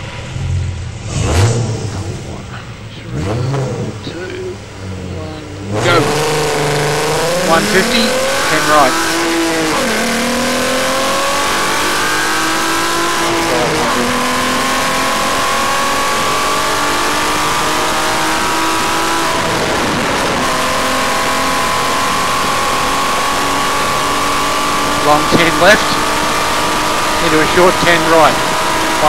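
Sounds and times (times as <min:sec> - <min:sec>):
car engine at full throttle: 0:00.0 - 0:29.0.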